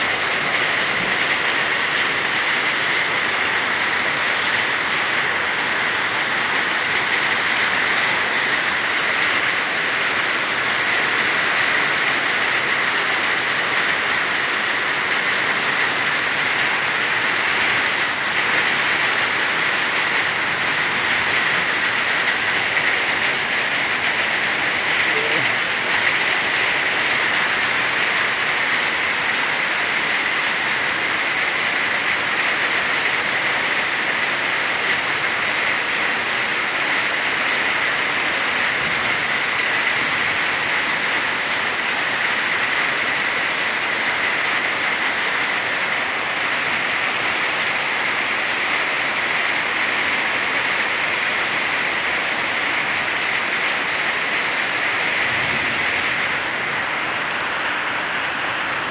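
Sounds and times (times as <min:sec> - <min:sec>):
rain on a metal roof: 0:00.0 - 0:58.9
rain on wet ground and puddles: 0:00.0 - 0:58.9.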